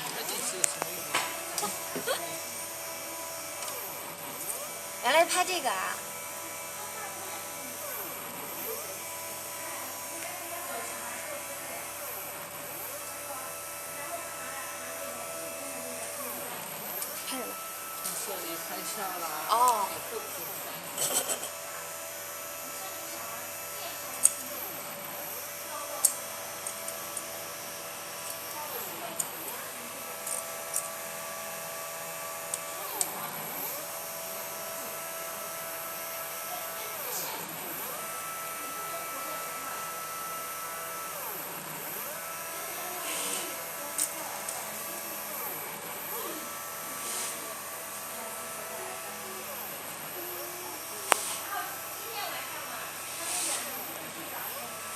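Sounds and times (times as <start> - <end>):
stepper motors whining: 0.0 - 54.9.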